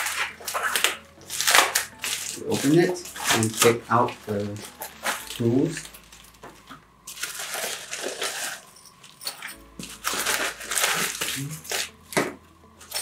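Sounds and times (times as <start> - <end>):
envelope and plastic bags crinkling: 0.0 - 13.0.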